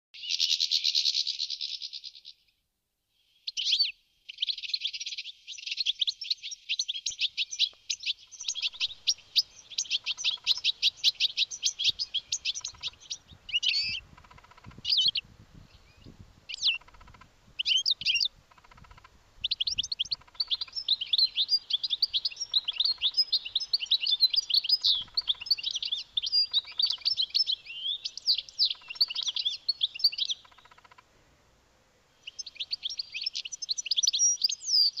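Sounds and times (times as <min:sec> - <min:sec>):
goldfinch singing: 0:03.4 - 0:31.0, 0:32.2 - 0:35.0.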